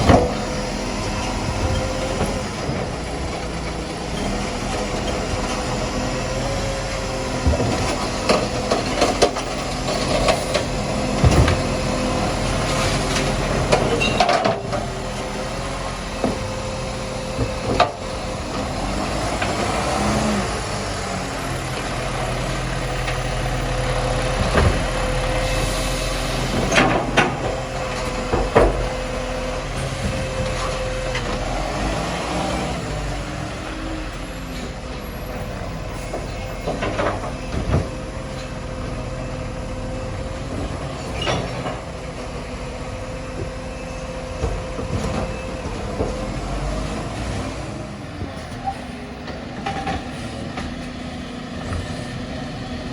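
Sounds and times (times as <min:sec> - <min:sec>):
garbage truck engine running: 0:00.0 - 0:52.9.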